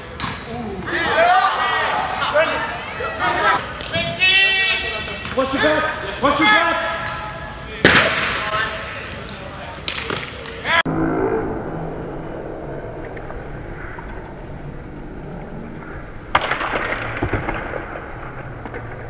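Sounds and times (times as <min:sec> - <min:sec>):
murmur of indoor arena: 0:00.0 - 0:19.0.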